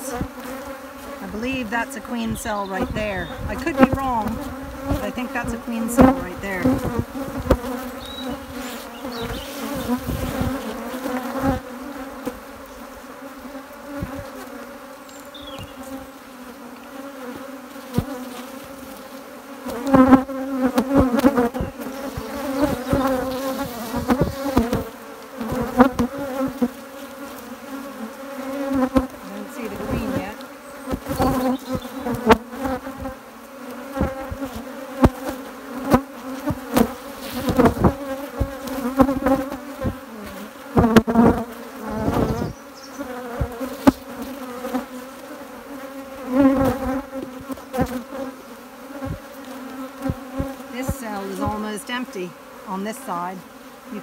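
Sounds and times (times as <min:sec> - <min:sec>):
bees buzzing: 0:00.0 - 0:54.0
knocks and bumps of hive frames: 0:00.0 - 0:54.0.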